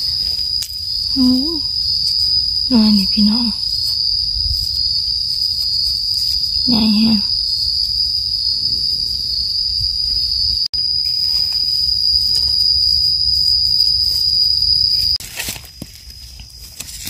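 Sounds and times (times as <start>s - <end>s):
high-pitched insect drone: 0.0s - 15.2s.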